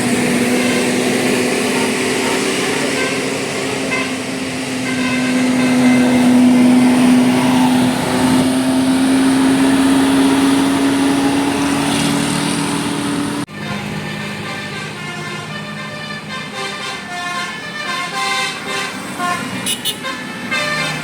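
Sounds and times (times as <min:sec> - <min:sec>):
bus droning note rising in pitch: 0:00.0 - 0:21.0.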